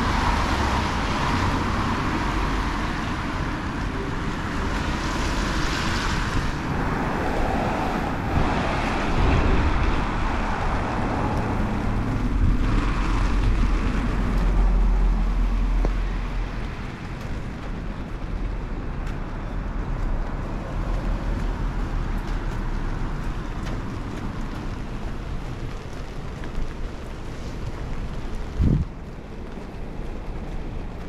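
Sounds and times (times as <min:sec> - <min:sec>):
rain: 0:00.0 - 0:31.0
vehicle passing on wet road: 0:00.0 - 0:31.0.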